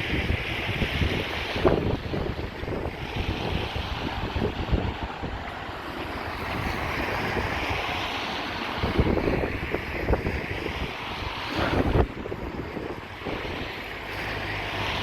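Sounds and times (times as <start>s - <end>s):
steady outdoor hiss: 0.0s - 15.0s
wind buffeting microphone: 0.0s - 15.0s.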